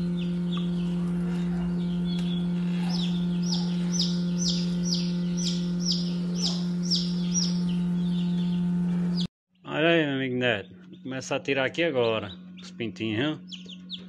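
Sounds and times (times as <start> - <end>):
chicks peeping: 0.0 - 9.3, 10.4 - 14.0
incubator humming: 0.0 - 14.0.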